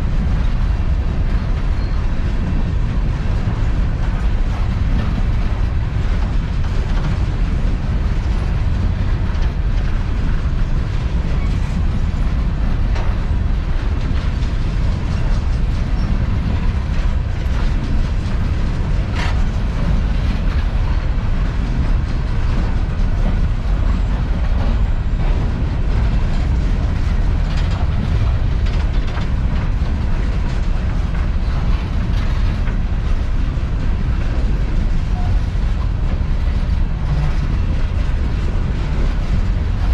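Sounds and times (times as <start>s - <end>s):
freight train rumbling past: 0.0s - 39.9s
train wheels clacking: 0.0s - 39.9s.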